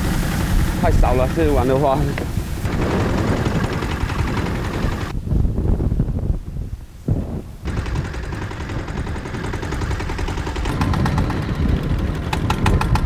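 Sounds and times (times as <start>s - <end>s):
boat engine popping: 0.0s - 5.2s, 7.6s - 13.0s.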